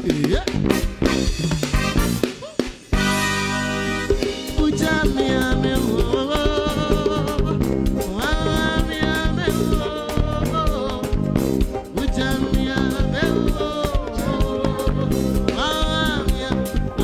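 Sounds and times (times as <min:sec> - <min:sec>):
man singing: 0:00.0 - 0:02.6, 0:04.0 - 0:17.0
live band upbeat groove: 0:00.0 - 0:17.0.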